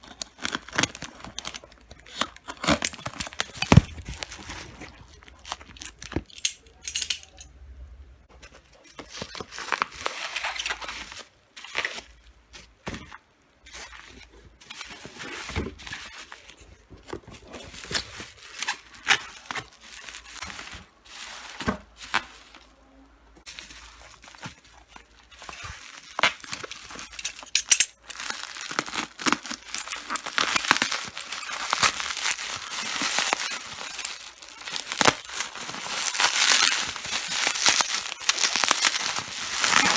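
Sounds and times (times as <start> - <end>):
plastic and paper crinkling: 0.0 - 6.8, 8.3 - 39.9.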